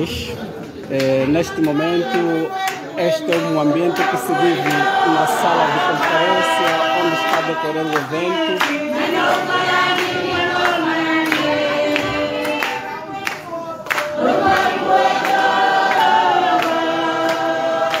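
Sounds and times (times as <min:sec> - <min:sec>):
crowd singing: 0:00.0 - 0:18.0
hand claps: 0:00.6 - 0:05.0, 0:05.9 - 0:18.0.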